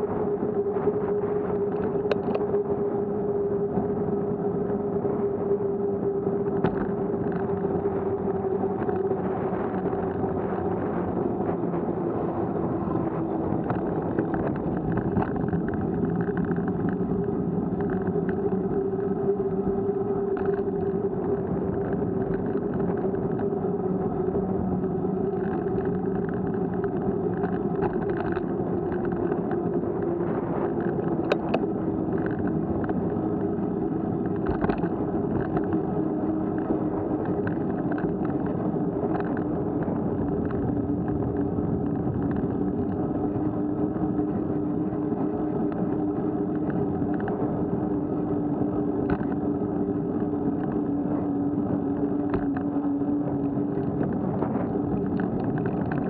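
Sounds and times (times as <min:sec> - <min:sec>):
road and wind noise: 0:00.0 - 0:56.0
vehicle engine droning: 0:00.0 - 0:56.0.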